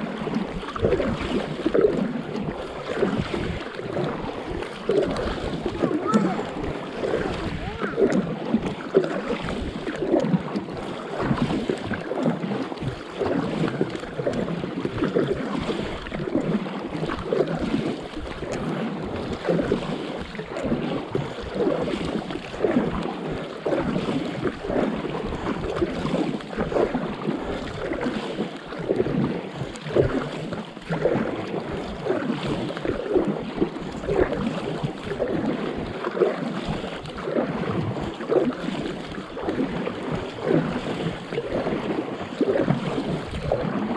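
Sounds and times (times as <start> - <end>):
light rain on water: 0.0 - 43.9
water splashing against paddleboard: 0.0 - 43.9.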